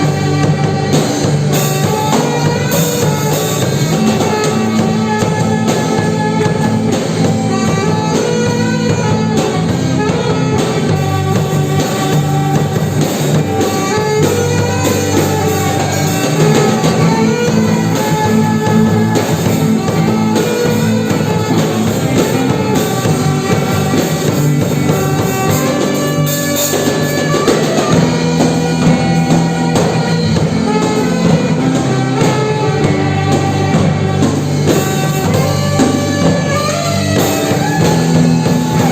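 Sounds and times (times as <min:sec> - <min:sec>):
band playing: 0:00.0 - 0:38.9.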